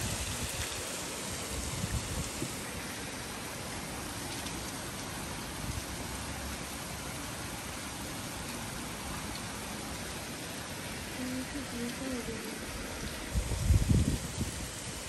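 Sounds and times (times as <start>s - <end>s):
heavy rain on street and cars: 0.0s - 15.0s.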